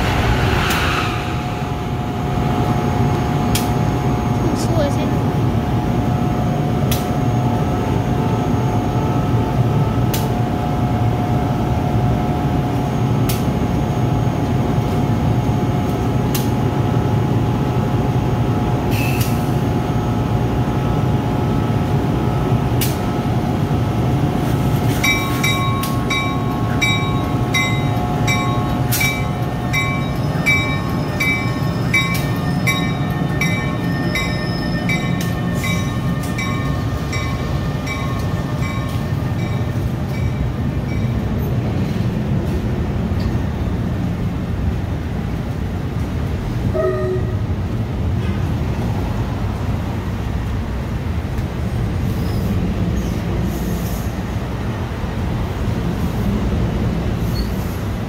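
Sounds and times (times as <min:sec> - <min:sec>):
electric locomotive humming: 0:00.0 - 0:58.0.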